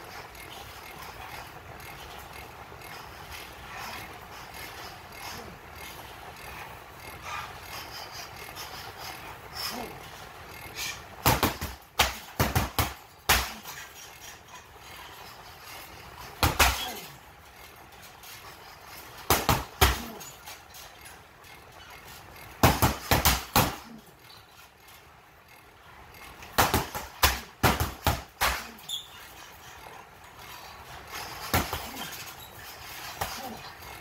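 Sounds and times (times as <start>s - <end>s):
low background noise: 0.0s - 34.0s.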